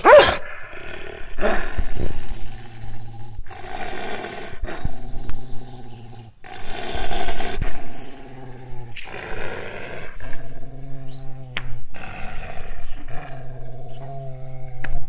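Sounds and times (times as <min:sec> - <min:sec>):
dog growling: 0:00.0 - 0:15.0.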